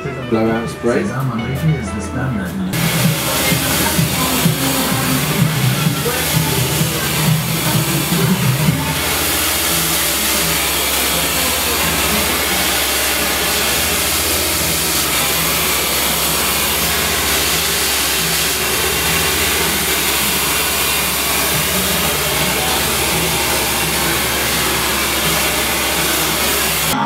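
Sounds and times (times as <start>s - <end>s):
hair dryer running: 2.7s - 27.0s.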